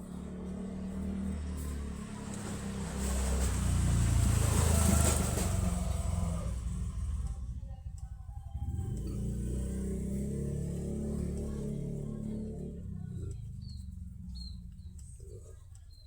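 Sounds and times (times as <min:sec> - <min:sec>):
vehicle passing by: 0:00.0 - 0:15.4.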